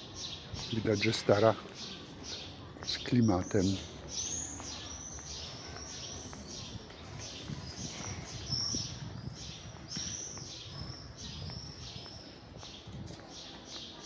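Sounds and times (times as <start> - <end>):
faint street murmur: 0.0 - 14.0.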